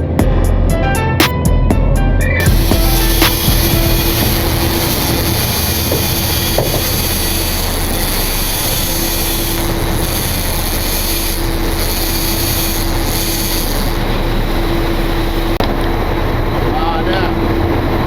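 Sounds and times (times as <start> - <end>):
boat engines droning: 2.4 - 18.0.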